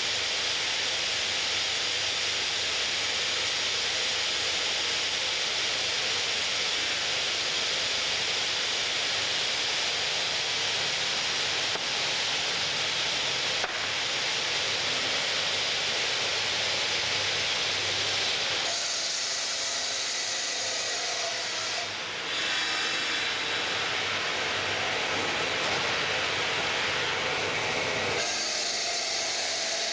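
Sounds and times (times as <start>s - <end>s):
stone cutting machine hissing: 0.1s - 29.9s.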